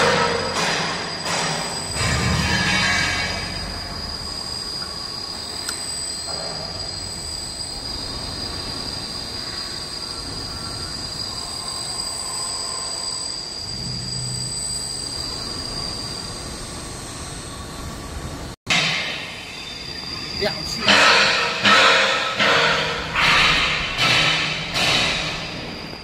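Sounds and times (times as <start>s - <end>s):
deeper machine hum: 0.0s - 26.0s
rollers whining and squealing: 0.0s - 26.0s.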